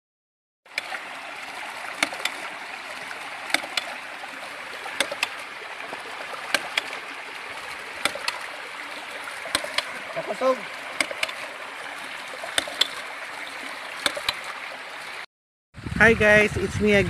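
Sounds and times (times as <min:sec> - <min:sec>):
pump valves knocking: 0:00.7 - 0:14.7
running water rushing: 0:00.7 - 0:15.9.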